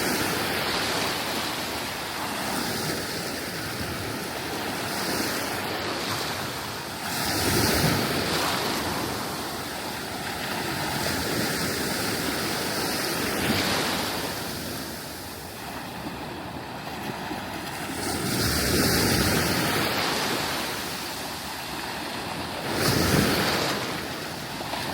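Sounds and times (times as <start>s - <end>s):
waves breaking on beach: 0.0s - 24.9s.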